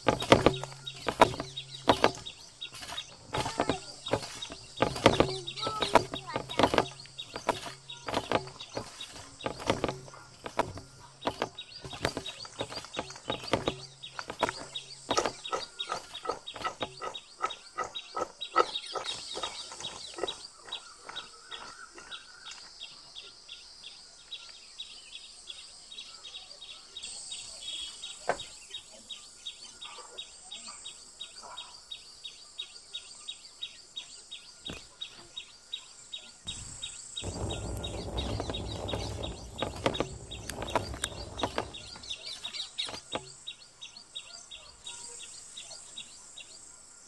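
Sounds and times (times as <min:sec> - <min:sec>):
birds and insects chirping: 0:00.0 - 0:47.0.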